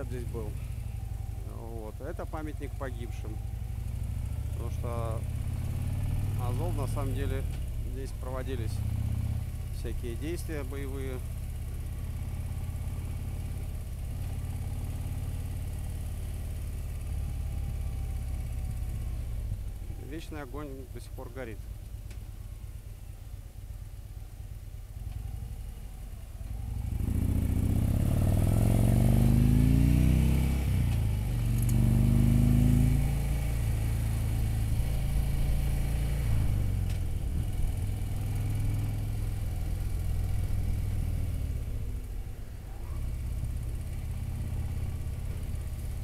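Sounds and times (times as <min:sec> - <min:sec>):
motorcycle engine revving: 0:00.0 - 0:20.2, 0:25.0 - 0:46.0.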